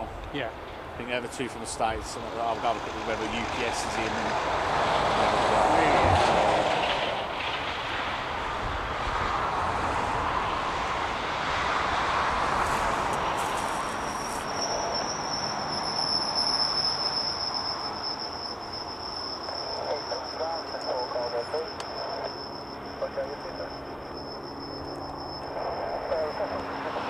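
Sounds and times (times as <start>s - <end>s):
aircraft engine rush: 0.0s - 27.0s
high-pitched whine: 0.0s - 27.0s.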